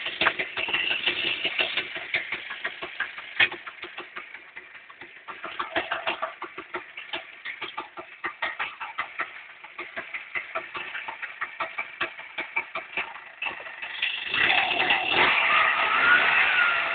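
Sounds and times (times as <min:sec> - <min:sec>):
two-stroke engine idling: 0:00.0 - 0:16.9.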